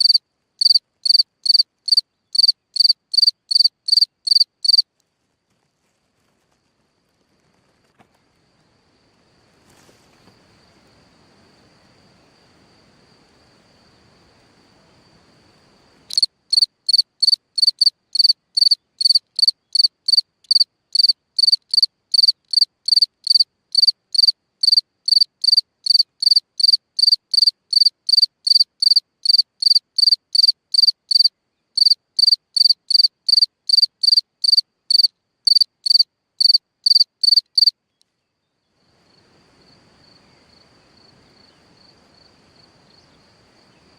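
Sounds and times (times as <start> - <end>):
cricket chirping: 0.0 - 43.9.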